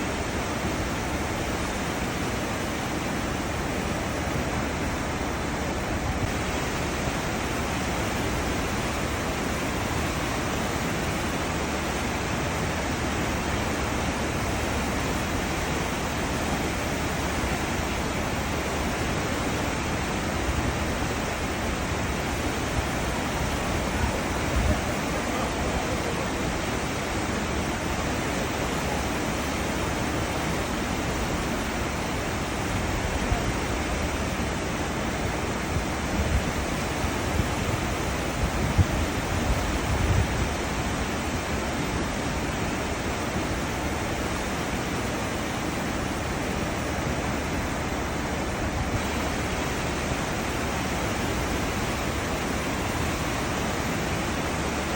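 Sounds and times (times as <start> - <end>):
ship wake rushing water: 0.0 - 54.9.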